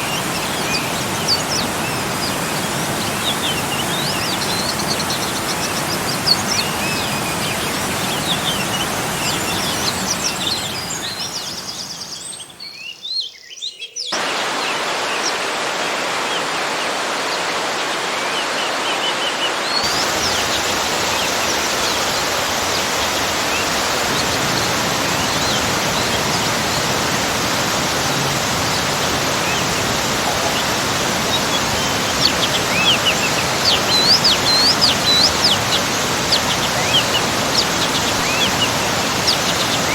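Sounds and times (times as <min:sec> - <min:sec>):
garden waterfall rushing: 0:00.0 - 0:12.7, 0:14.2 - 0:39.9
birds chirping: 0:00.0 - 0:39.9.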